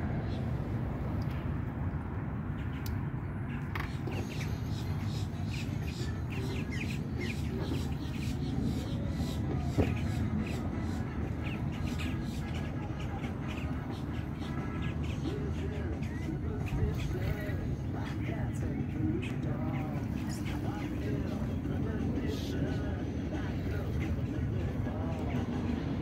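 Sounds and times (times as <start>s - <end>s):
low outdoor rumble: 0.0s - 26.0s
birds chirping and cawing: 2.5s - 26.0s.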